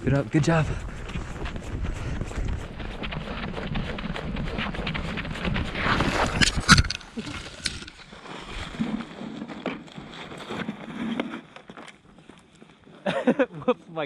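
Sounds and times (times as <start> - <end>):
scuffing and rustling on microphone: 0.0 - 13.0
scraping on ice: 1.2 - 12.4.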